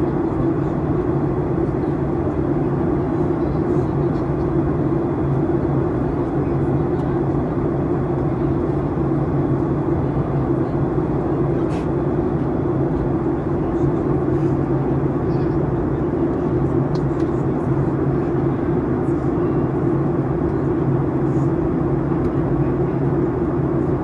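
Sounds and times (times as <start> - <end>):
airliner cabin engine drone: 0.0 - 24.0
even low hum: 0.0 - 24.0.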